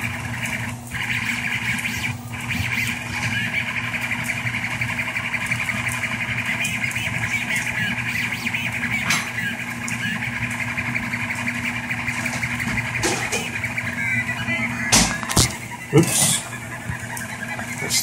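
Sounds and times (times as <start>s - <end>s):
stepper motors buzzing: 0.0s - 18.0s.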